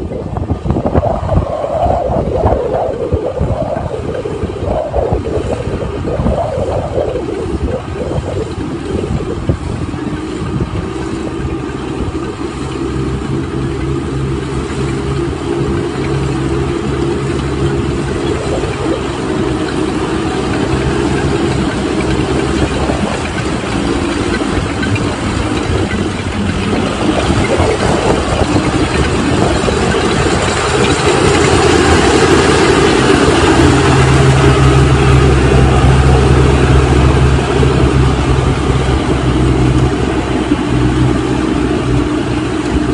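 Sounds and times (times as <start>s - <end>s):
combine harvester diesel engine: 0.0s - 42.9s.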